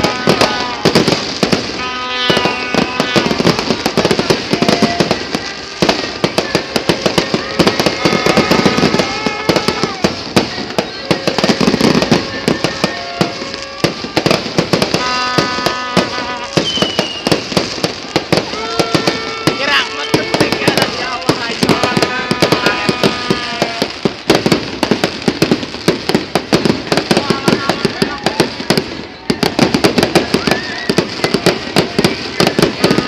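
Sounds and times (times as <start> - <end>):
fireworks bangs and crackling pops: 0.0 - 33.0.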